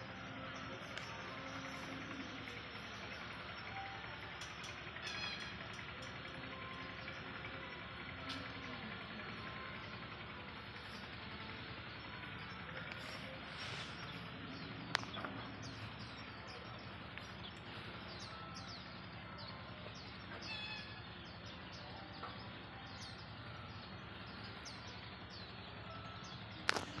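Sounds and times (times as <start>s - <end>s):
small birds chirping: 0.0s - 27.0s
steady low hum: 0.0s - 27.0s.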